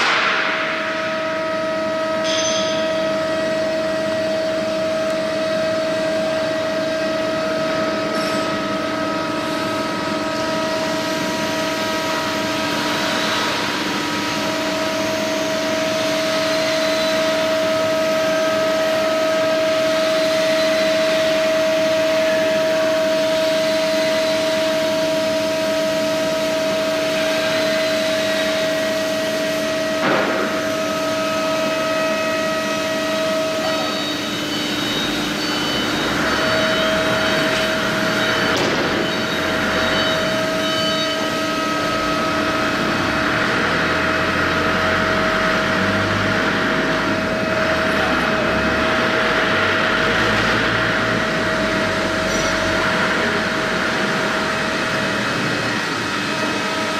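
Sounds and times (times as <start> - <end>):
router spindle whining: 2.2 - 56.9.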